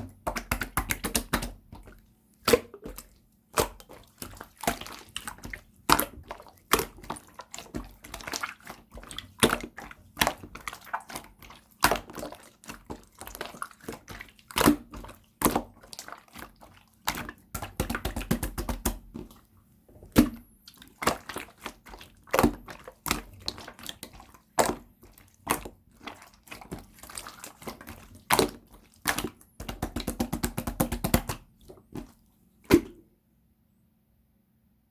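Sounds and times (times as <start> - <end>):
slime squished by hand: 0.0 - 33.0.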